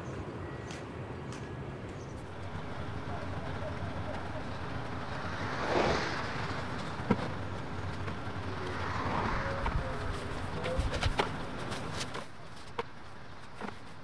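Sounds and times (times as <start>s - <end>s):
outdoor background noise: 0.0s - 14.0s
cars passing: 1.9s - 14.0s.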